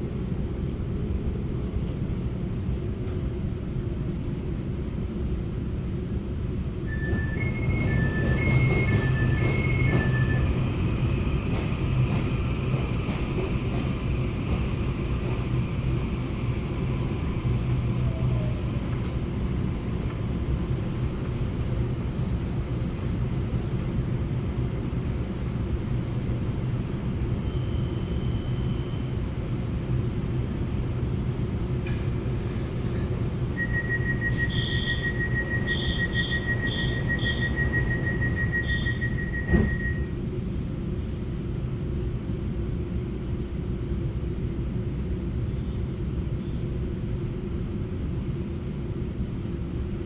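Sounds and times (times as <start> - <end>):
train rumble from inside carriage: 0.0 - 50.0.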